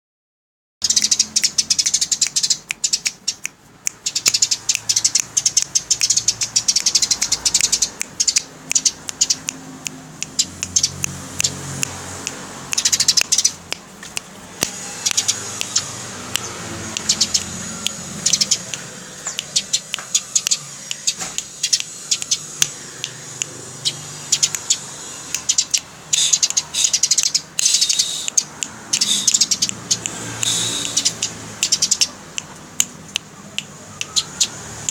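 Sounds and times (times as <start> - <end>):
sparrow chattering: 0.8 - 12.0, 12.6 - 34.9.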